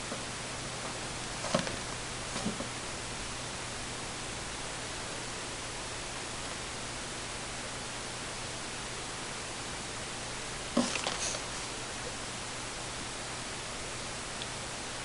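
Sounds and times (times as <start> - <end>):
recording hiss: 0.0 - 15.0.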